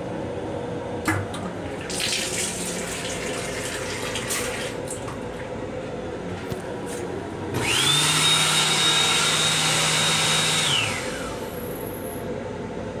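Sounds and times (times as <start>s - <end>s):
hand dryer running: 1.1s - 12.2s.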